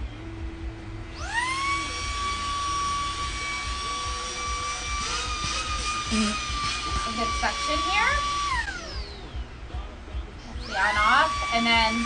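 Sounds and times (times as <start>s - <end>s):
handheld vacuum motor whine: 1.1s - 9.4s, 10.6s - 12.0s.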